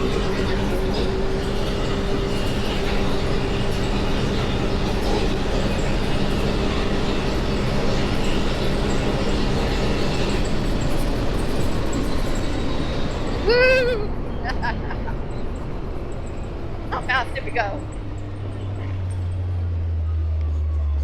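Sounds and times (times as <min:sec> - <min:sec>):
drivetrain rumble and rattle: 0:00.0 - 0:21.0
off-road vehicle engine droning: 0:00.0 - 0:21.0.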